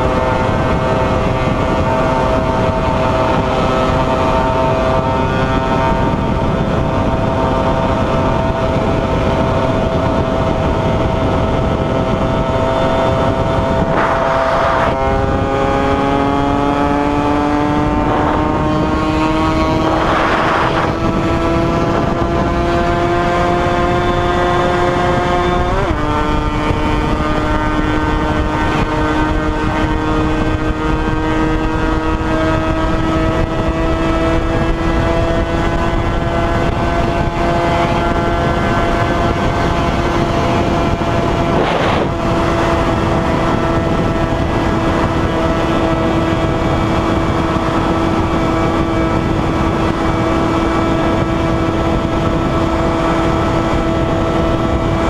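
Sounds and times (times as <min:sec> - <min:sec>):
motorcycle engine revving high: 0:00.0 - 0:55.0
wind rush: 0:00.0 - 0:55.0.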